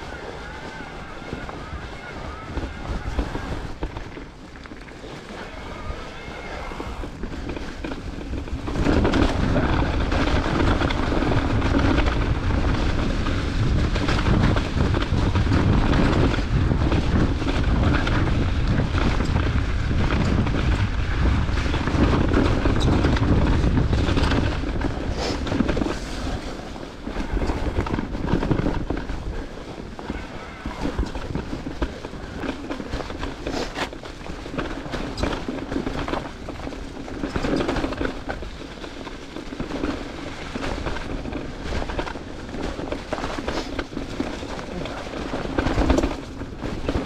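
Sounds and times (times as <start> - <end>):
bike rattling: 0.0 - 47.0
bike tyres running over ground: 0.0 - 47.0
wind buffeting microphone: 0.0 - 47.0.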